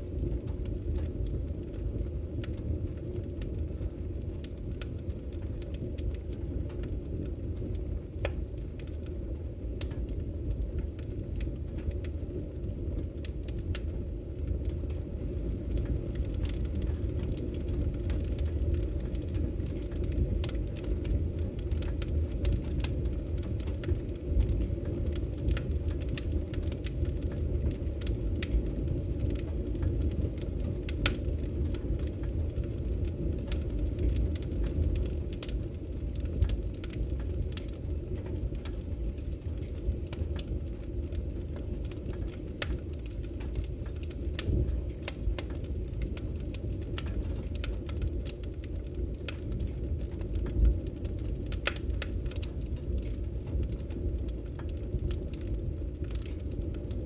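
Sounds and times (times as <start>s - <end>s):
fire crackling and popping: 0.0s - 57.0s
flames rumbling: 0.0s - 57.0s.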